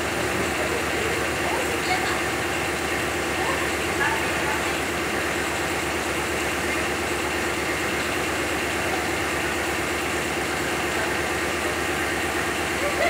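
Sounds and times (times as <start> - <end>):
motor running with fast pulse: 0.0 - 13.0.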